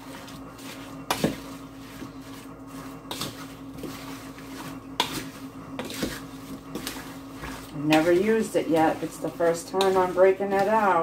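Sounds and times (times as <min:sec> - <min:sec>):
apples squishing in a bowl: 0:00.0 - 0:11.0
steady low hum: 0:00.0 - 0:11.0.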